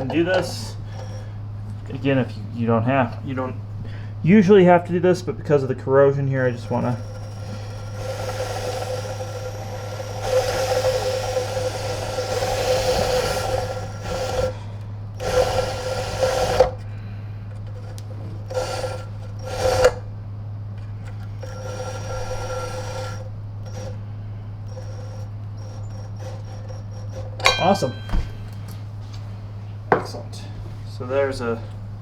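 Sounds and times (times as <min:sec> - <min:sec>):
steady pitched whine: 0:00.0 - 0:20.2, 0:20.8 - 0:32.0.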